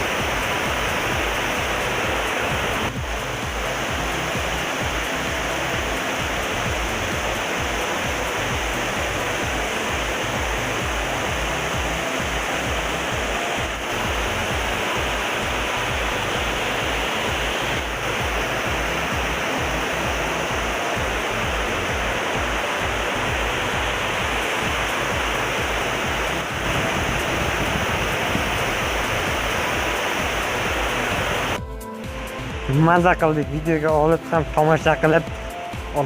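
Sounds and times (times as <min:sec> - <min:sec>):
waterfall rushing onto rock: 0:00.0 - 0:31.6.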